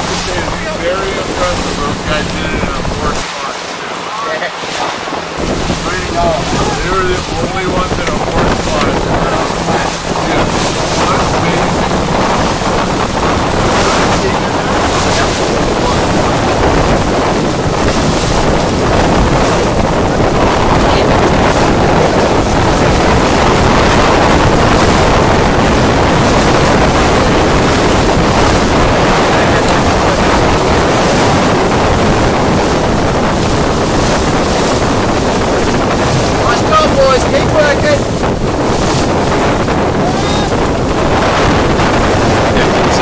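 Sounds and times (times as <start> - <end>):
water rushing past a boat: 0.0 - 43.0
wind buffeting the microphone: 0.0 - 43.0.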